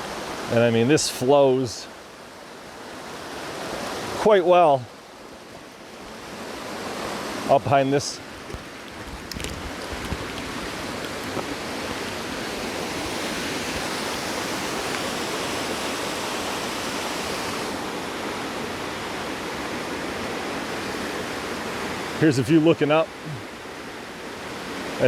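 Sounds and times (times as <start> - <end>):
creek water rushing down rock: 0.0 - 25.0.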